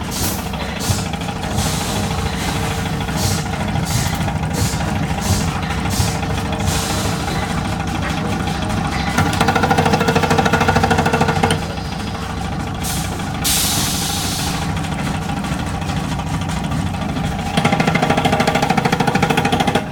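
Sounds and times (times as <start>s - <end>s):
machine motor hum: 0.0s - 19.9s
rapid machine pulsing: 0.0s - 19.9s.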